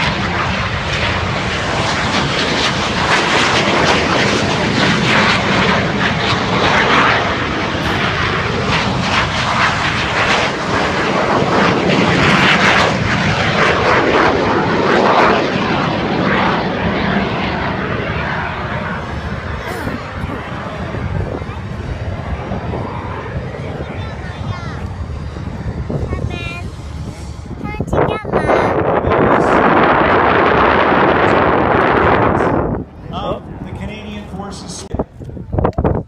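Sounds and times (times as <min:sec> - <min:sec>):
airplane engine rushing: 0:00.0 - 0:36.0.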